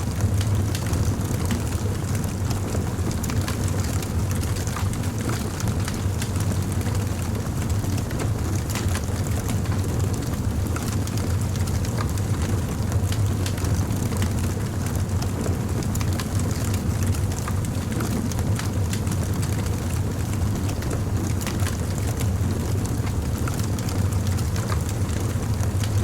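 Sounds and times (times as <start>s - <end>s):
wood fire crackling: 0.1s - 26.0s.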